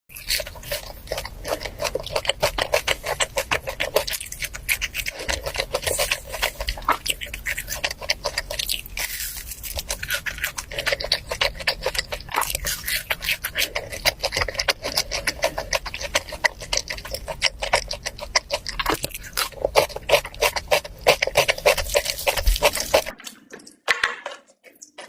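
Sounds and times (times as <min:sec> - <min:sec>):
wet chewing clicks and smacks: 0:00.1 - 0:25.0.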